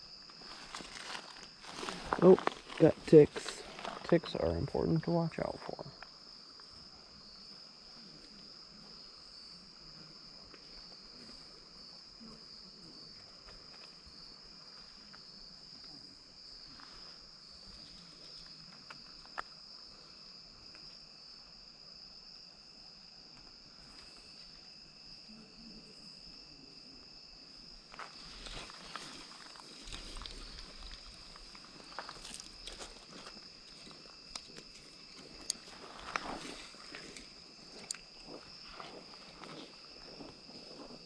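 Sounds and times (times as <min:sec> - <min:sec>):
insect chorus drone: 0:00.0 - 0:41.0.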